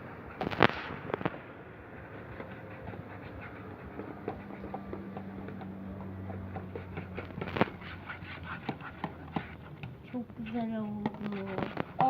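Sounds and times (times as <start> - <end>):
stirring clicks and taps: 2.3 - 12.0.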